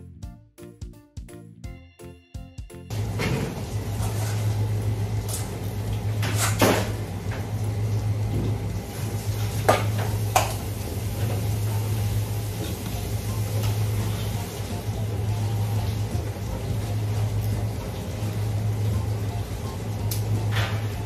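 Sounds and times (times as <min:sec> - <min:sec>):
tap water running: 0:02.9 - 0:21.0.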